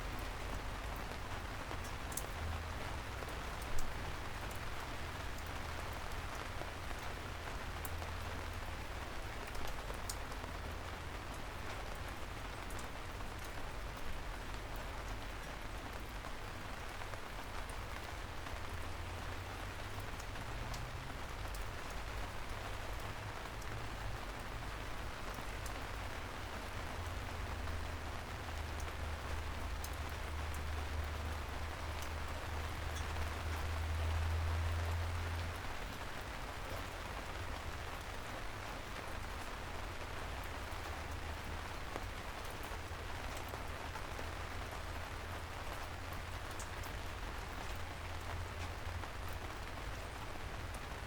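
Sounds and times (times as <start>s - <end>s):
soft rain falling: 0.0s - 51.0s.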